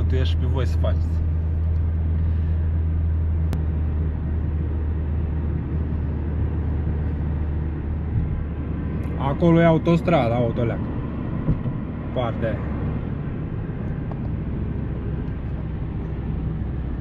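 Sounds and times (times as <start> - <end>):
engine and road drone: 0.0 - 17.0.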